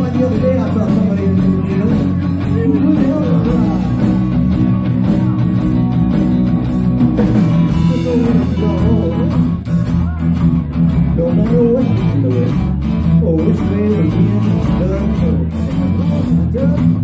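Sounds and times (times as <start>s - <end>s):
acoustic guitar: 0.0s - 17.0s
drum kit: 0.0s - 17.0s
electric guitars: 0.0s - 17.0s.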